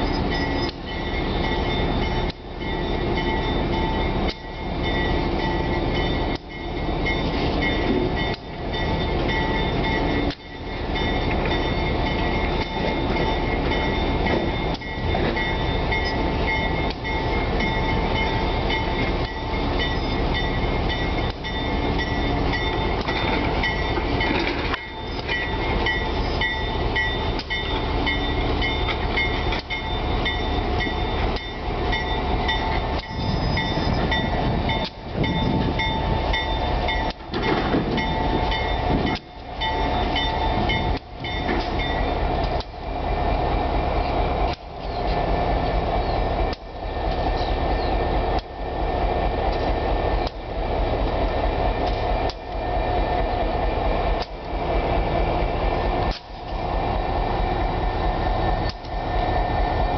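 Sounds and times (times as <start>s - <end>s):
diesel locomotive rumbling past: 0.0s - 59.9s
rail noise: 0.0s - 59.9s.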